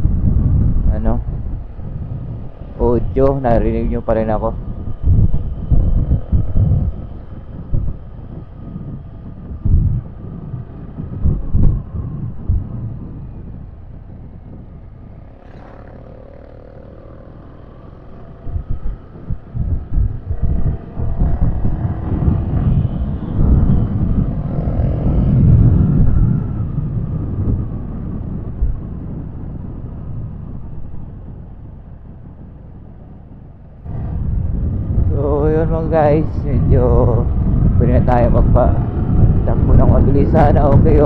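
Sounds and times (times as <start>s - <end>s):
engine and traffic rumble: 0.0s - 41.0s
wind buffeting microphone: 0.0s - 41.0s.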